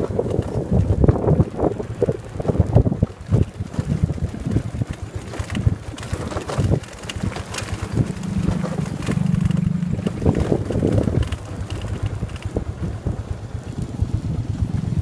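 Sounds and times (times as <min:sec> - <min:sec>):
motorbike engine running: 0:00.0 - 0:15.0
wind buffeting microphone: 0:00.0 - 0:15.0.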